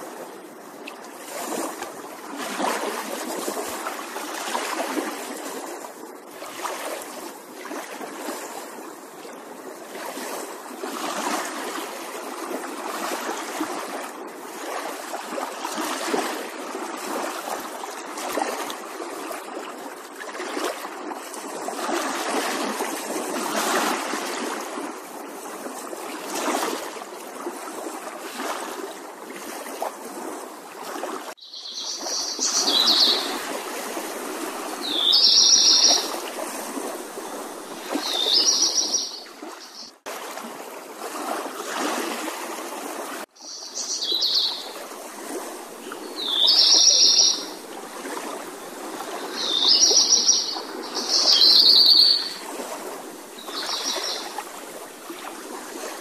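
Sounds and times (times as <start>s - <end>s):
pond water splashing and trickling: 0.0s - 56.0s.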